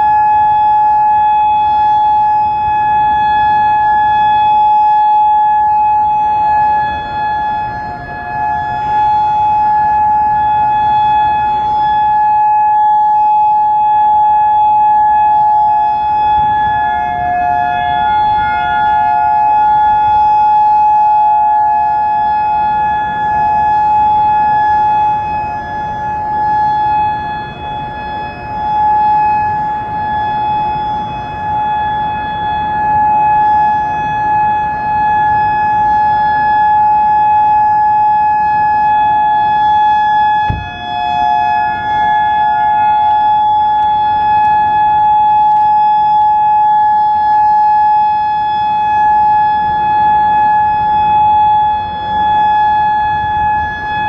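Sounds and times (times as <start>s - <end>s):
electronic siren steady tone: 0.0s - 54.0s.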